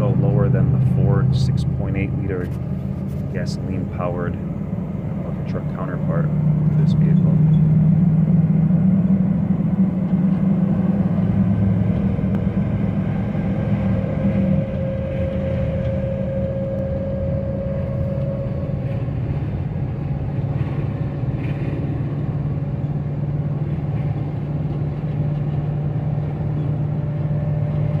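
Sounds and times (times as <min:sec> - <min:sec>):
truck engine and road drone: 0:00.0 - 0:28.0.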